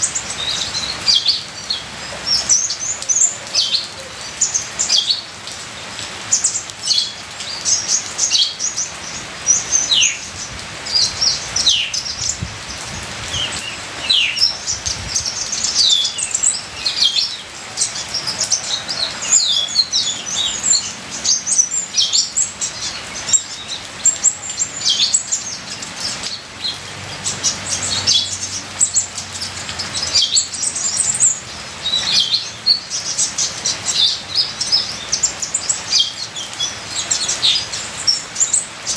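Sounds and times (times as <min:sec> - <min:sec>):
bird song high chirps: 0:00.0 - 0:38.9
trickling water: 0:00.0 - 0:38.9.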